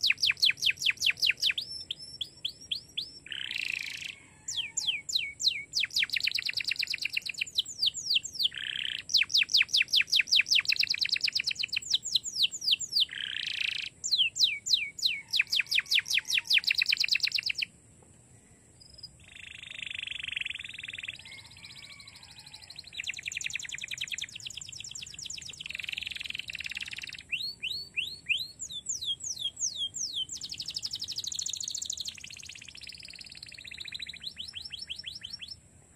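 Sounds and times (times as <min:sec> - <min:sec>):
canary singing trills: 0:00.0 - 0:17.7, 0:18.8 - 0:35.6.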